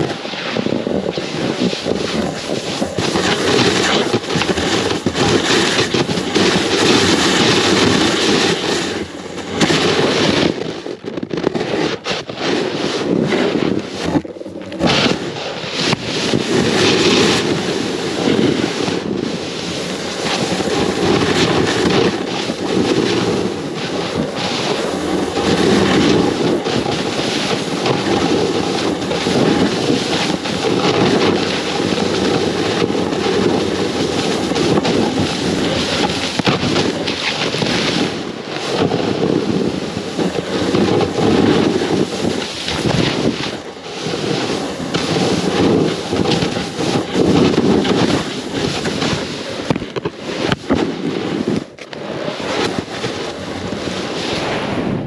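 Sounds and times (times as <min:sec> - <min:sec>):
snowboard scraping over snow: 0:00.0 - 0:55.0
wind buffeting microphone: 0:00.0 - 0:55.0.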